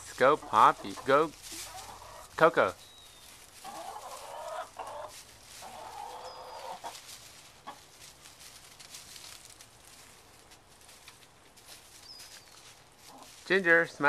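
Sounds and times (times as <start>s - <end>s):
hens clucking: 0.0s - 14.0s
hens pecking and scratching ground: 0.0s - 14.0s.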